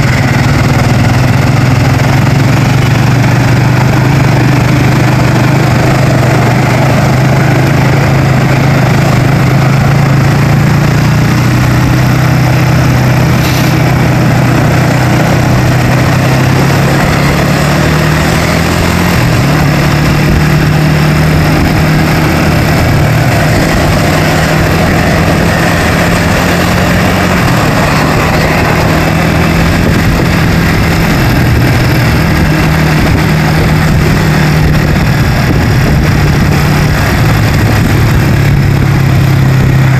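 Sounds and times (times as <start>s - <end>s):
road noise: 0.0s - 39.9s
vehicle engine hum: 0.0s - 39.9s.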